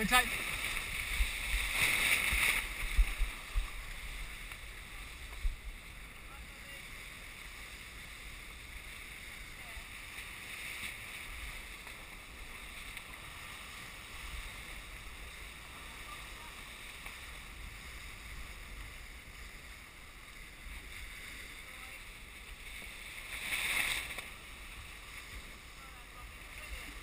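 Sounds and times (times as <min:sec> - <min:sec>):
rush of wind and water: 0:00.0 - 0:27.0.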